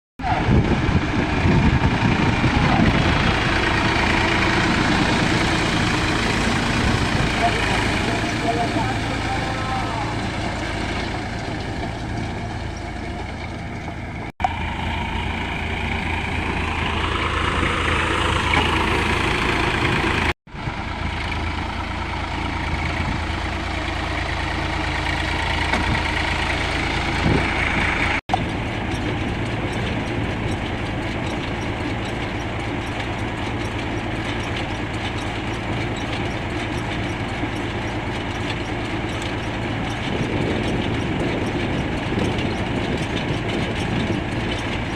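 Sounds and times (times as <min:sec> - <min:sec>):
tractor diesel engine running: 0:00.2 - 0:44.9.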